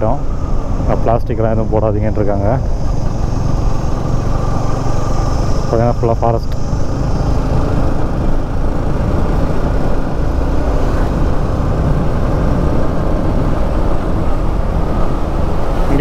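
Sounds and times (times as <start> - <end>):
motorcycle engine cruising: 0.0 - 16.0
wind and road noise: 0.0 - 16.0.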